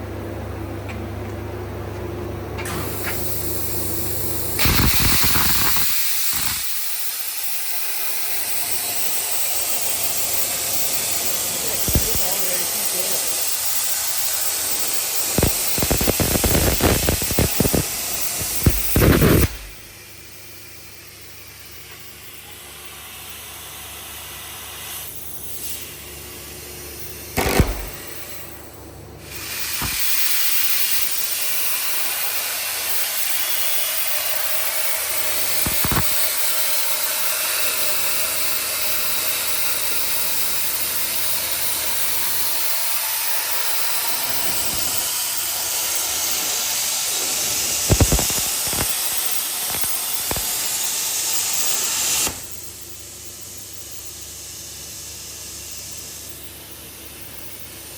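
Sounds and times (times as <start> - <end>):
plasma cutting torch hissing: 2.7 - 57.9.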